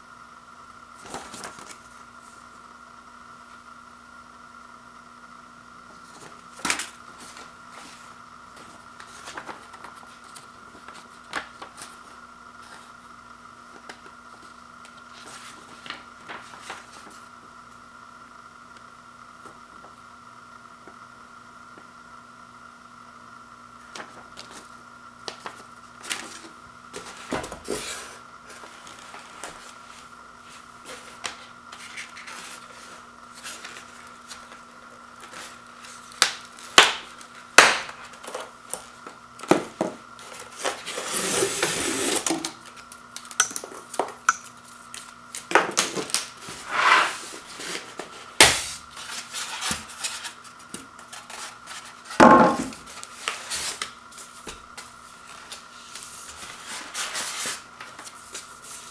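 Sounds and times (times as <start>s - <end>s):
faint steady hum: 0.0s - 58.9s.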